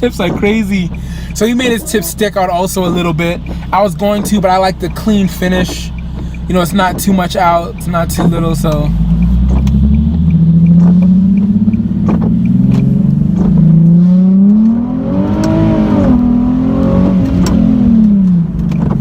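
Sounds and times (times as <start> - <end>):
loud car engine drone: 0.0 - 19.0.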